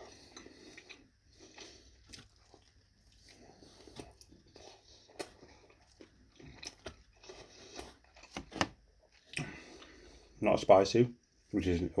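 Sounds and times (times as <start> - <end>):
chewing crunchy pizza crust: 0.0 - 10.4.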